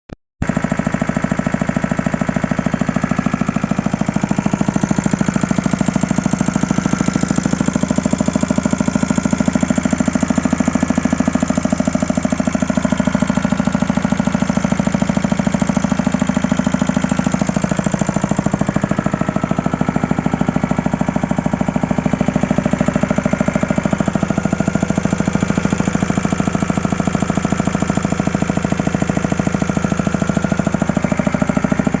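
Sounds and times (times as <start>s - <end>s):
generator engine knocking: 0.4s - 32.0s.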